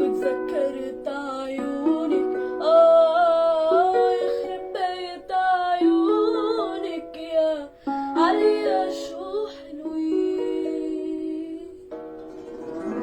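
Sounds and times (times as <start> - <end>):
plucked string instrument: 0.0 - 13.0.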